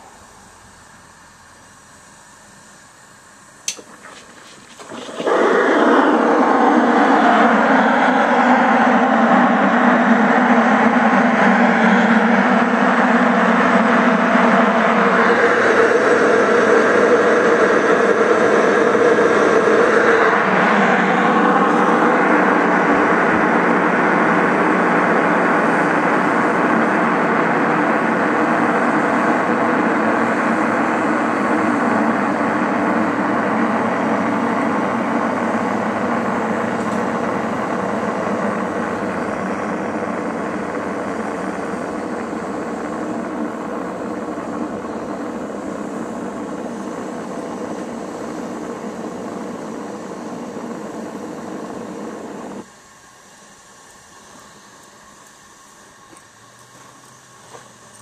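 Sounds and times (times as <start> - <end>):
steam hissing into mash: 0.0 - 58.0
humming tone: 4.8 - 52.7.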